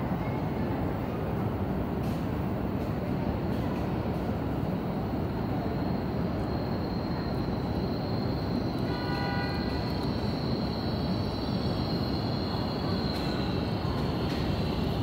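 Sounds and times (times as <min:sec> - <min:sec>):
train approaching platform: 0:00.0 - 0:15.0.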